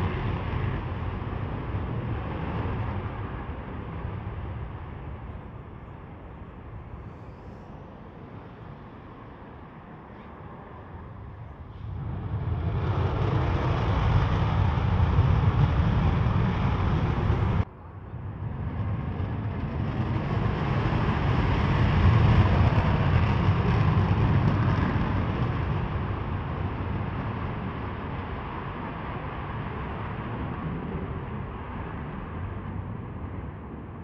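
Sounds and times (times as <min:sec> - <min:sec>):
jet engine afterburner roar: 0:00.0 - 0:34.0.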